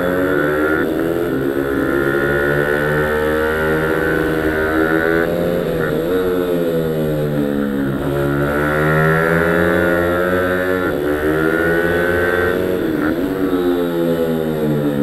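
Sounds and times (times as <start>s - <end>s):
pit bike engine accelerating: 0.0s - 15.0s.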